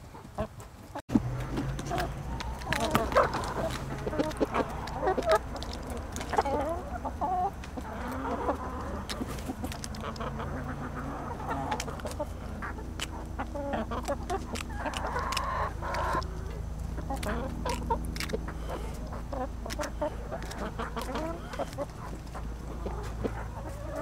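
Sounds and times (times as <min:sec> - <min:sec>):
hens clucking: 0:00.0 - 0:24.0
low hum: 0:01.1 - 0:24.0.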